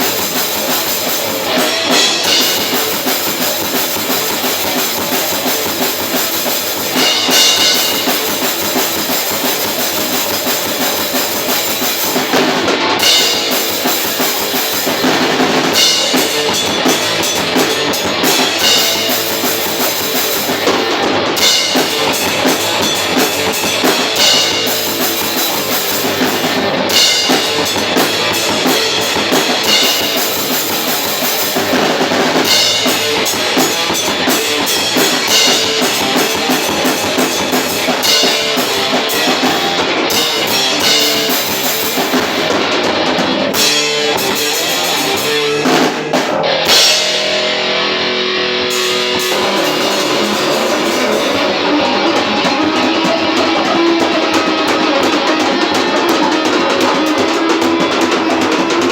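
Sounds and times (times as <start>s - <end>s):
distorted electric guitar: 0.0s - 58.9s
drum kit with cymbal and snare: 0.0s - 58.9s
metal band playing: 0.0s - 58.9s.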